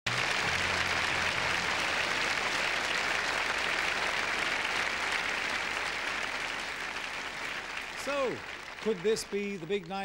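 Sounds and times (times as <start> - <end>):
audience applauding: 0.1 - 10.0.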